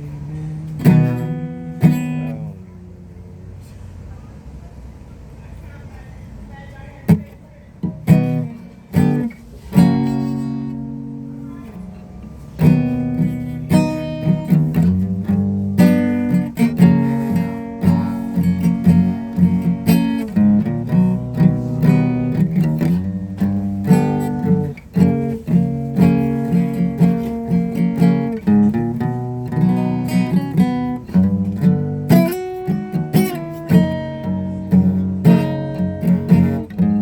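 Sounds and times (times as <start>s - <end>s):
acoustic guitar strumming: 0.0s - 3.1s, 6.9s - 37.0s.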